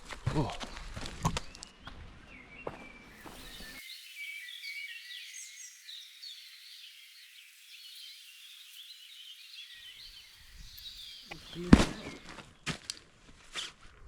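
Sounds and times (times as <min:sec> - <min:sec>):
birds chirping: 0:00.3 - 0:12.8.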